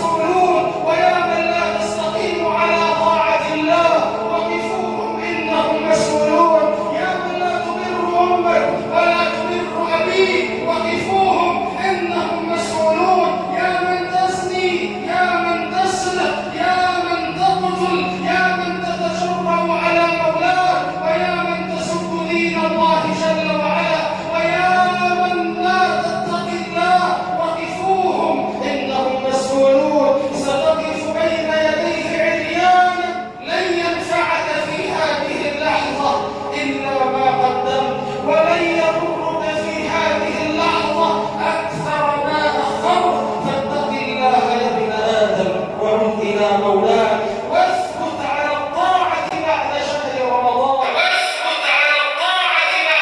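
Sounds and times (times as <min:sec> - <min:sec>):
person singing long notes: 0:00.0 - 0:49.4.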